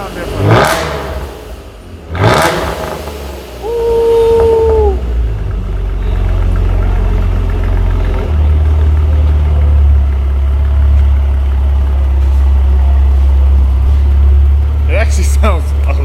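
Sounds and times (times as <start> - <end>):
car engine idling with deep exhaust: 0.0 - 16.0.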